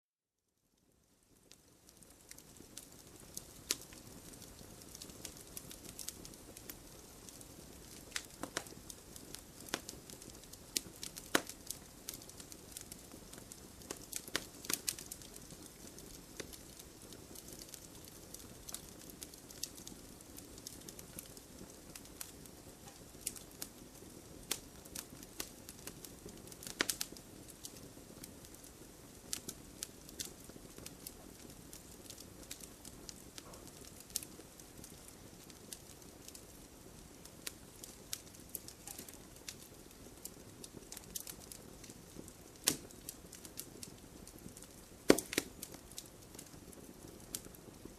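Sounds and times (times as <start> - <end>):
wood fire crackling: 0.8 - 47.9
sharp pops of fire: 1.4 - 47.9.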